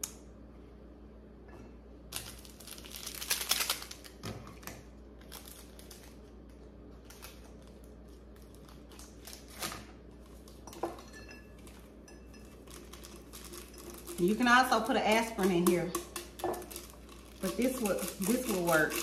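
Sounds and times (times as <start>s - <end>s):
wrapping crinkling: 2.1s - 10.6s, 11.6s - 19.0s.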